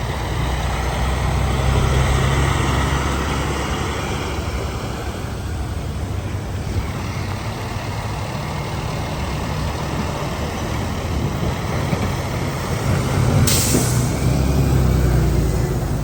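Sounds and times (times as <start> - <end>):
diesel truck engine rumbling: 0.0 - 16.0
road traffic noise: 0.0 - 16.0.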